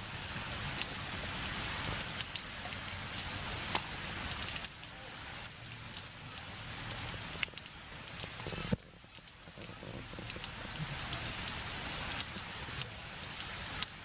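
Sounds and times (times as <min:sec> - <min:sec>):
heavy rain: 0:00.0 - 0:14.0
patters of raindrops: 0:00.0 - 0:14.0.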